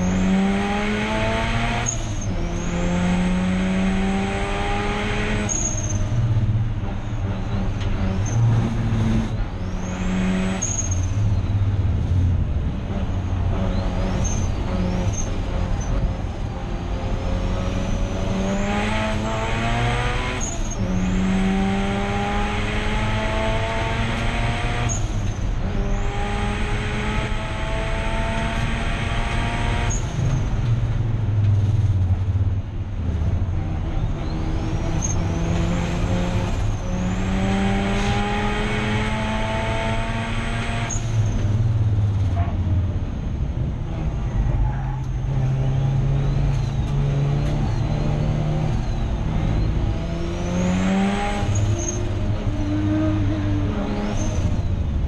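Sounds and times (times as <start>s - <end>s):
race car engine accelerating: 0.0s - 32.3s, 32.9s - 42.6s, 43.6s - 55.0s.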